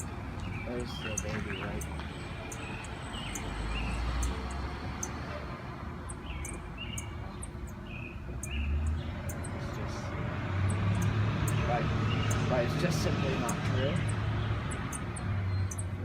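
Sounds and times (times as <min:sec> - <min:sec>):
sparrow chirping: 0:00.0 - 0:16.0.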